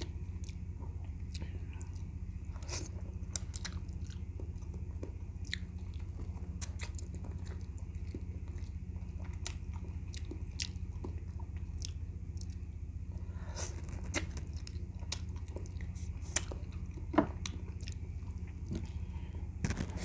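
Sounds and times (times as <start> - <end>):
man chewing meat: 0.0 - 20.0
steady low hum: 0.0 - 20.0.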